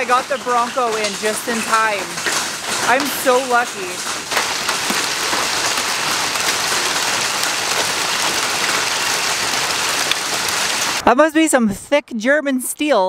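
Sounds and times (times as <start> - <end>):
heavy rain on pavement and cars: 0.0 - 11.0.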